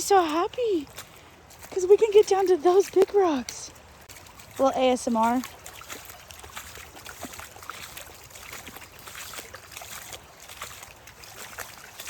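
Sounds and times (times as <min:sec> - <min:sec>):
creek water babbling over rocks: 0:00.0 - 0:12.0.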